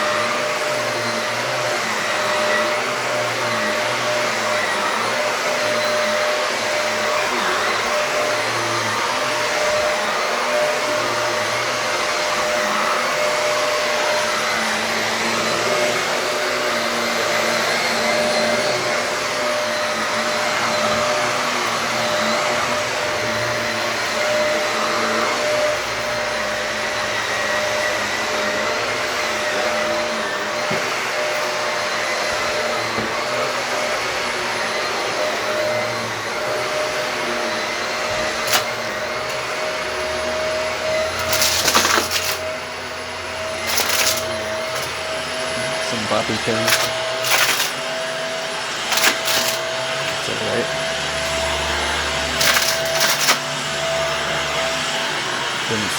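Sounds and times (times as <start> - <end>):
vacuum cleaner running over carpet: 0.0 - 55.9.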